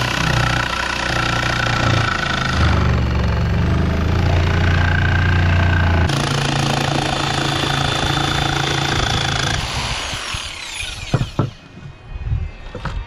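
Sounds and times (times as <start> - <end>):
power tool motor cutting: 0.0 - 11.6.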